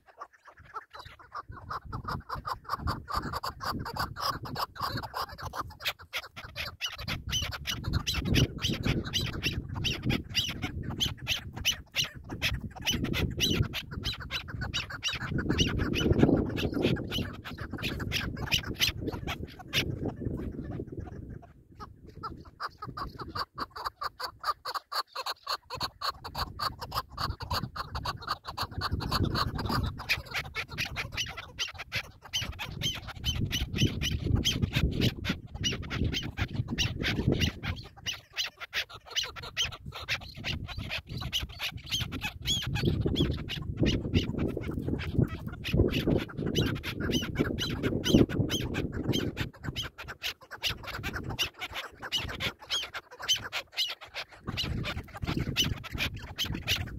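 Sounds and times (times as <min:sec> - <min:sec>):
partridges calling: 0:00.0 - 0:56.9.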